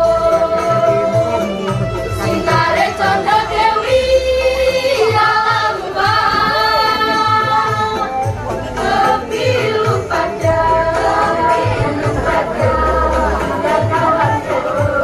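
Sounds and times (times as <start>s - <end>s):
girls' choir singing: 2.2s - 8.1s, 8.8s - 15.0s.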